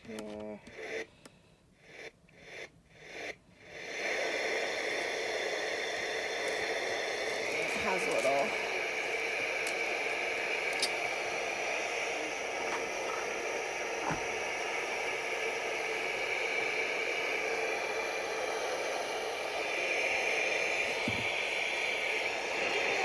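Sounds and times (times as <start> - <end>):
radio static hiss: 0.0 - 1.2, 1.8 - 23.0.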